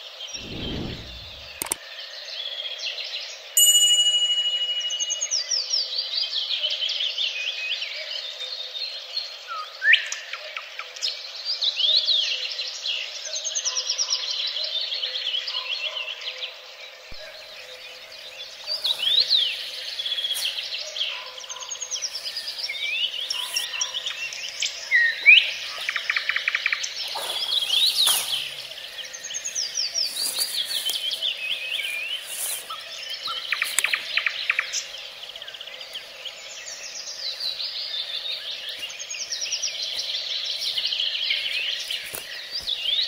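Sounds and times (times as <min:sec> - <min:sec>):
songbirds singing: 0:04.8 - 0:43.0.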